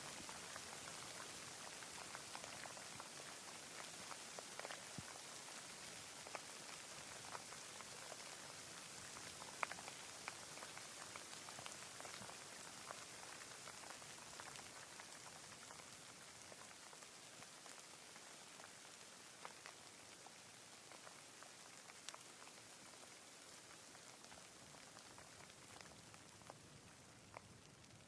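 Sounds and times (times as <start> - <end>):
raindrops ticking: 0.0 - 28.0.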